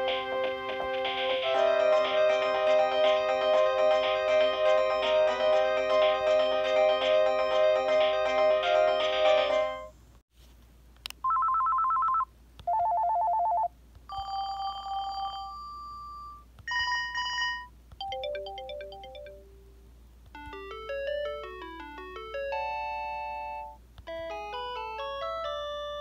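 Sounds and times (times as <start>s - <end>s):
phone ringtone melody: 0.0s - 9.9s, 11.3s - 19.6s, 20.4s - 26.0s.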